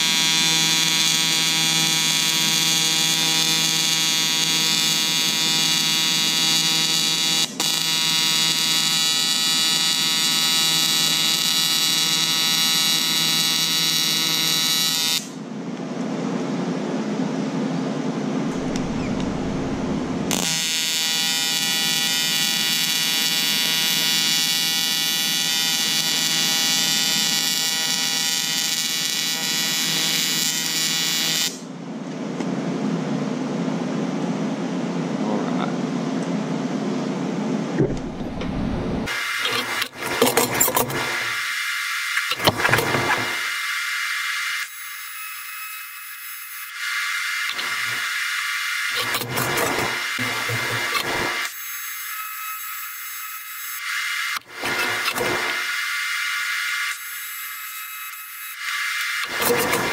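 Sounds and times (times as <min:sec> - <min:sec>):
rough noisy welding sound: 0:00.0 - 0:15.4, 0:18.5 - 0:31.7, 0:39.0 - 0:59.9
welding arc buzzing: 0:00.0 - 0:15.4, 0:18.5 - 0:31.7, 0:37.8 - 0:59.9.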